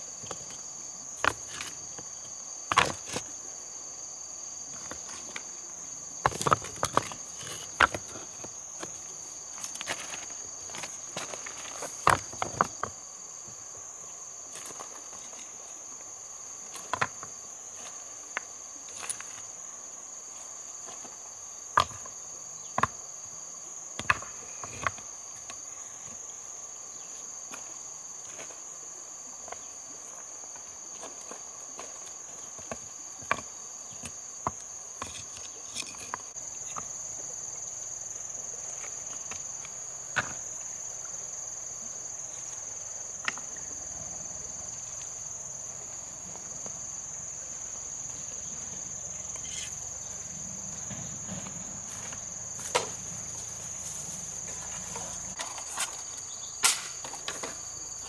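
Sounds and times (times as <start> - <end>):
insect chorus drone: 0.0 - 58.0.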